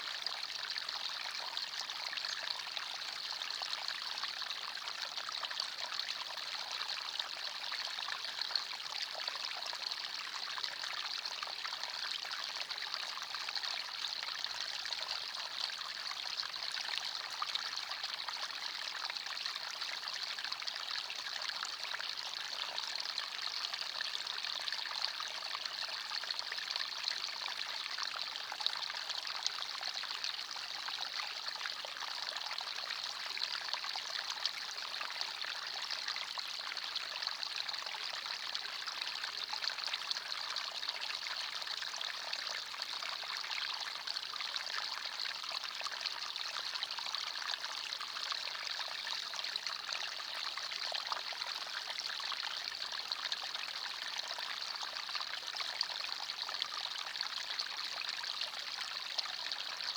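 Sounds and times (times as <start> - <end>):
stream flowing and trickling: 0.0 - 59.9.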